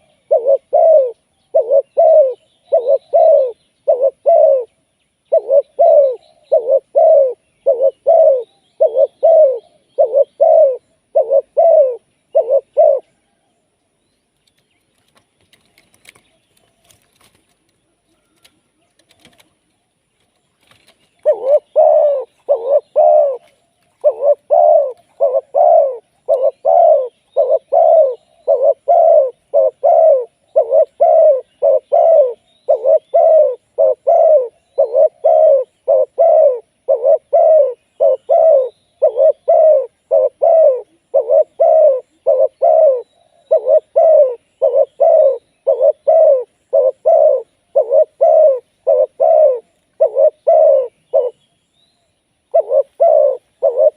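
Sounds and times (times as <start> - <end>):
dove cooing: 0.0 - 13.5, 20.6 - 51.5, 52.5 - 53.9.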